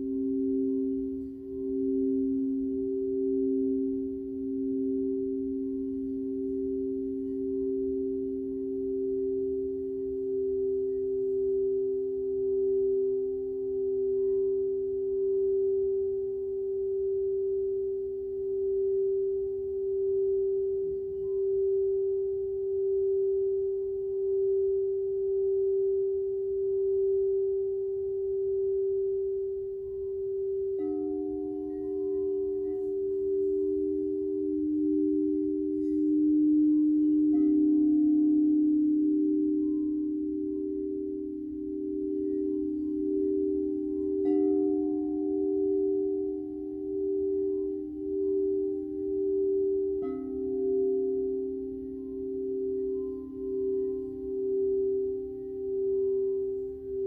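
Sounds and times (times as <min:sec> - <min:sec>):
crystal singing bowls humming: 0:00.0 - 0:57.0.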